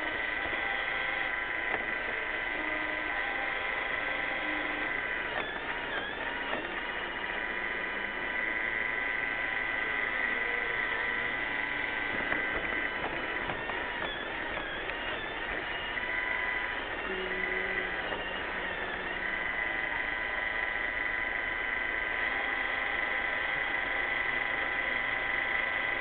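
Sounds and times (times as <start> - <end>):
robot vacuum whirring: 0.0 - 26.0
thin high whine: 0.0 - 26.0.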